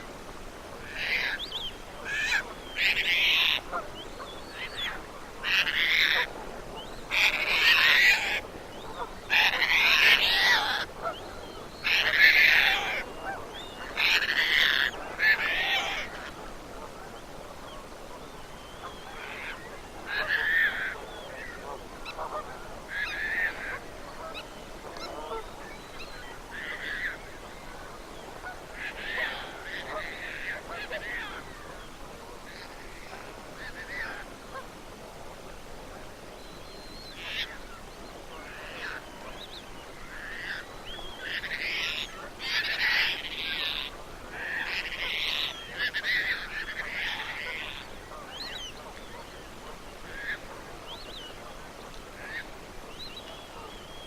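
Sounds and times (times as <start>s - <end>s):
flock of geese honking: 2.0s - 31.7s, 37.1s - 54.0s.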